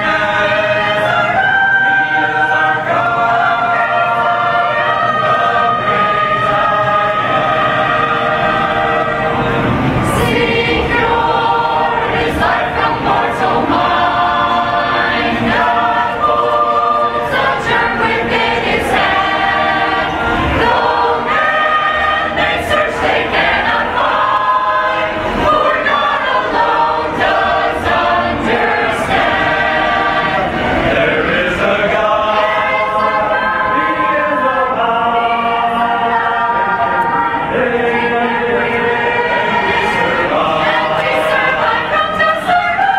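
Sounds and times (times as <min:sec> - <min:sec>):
mixed choir singing a cappella: 0:00.0 - 0:42.9.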